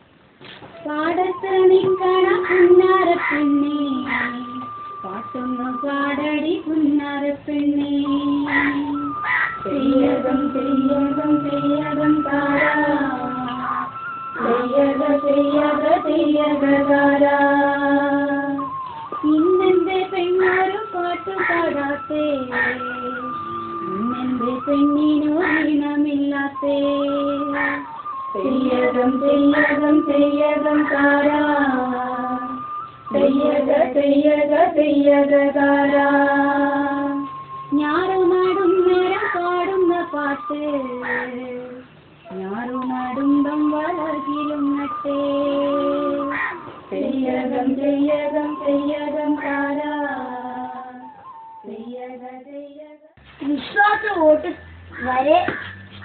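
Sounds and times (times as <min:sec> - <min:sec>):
sustained musical accompaniment: 0:00.0 - 0:52.0
high voice singing: 0:00.7 - 0:55.8.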